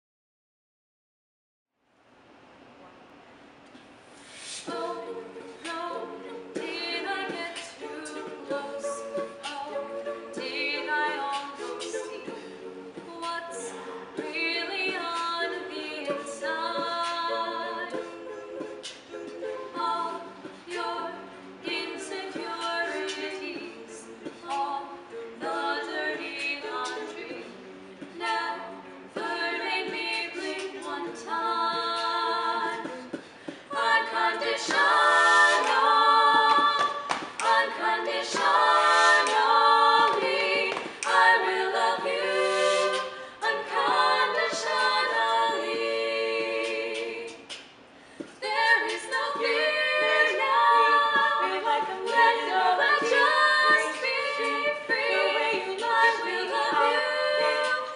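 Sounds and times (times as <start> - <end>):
women singing in harmony: 4.4 - 57.9.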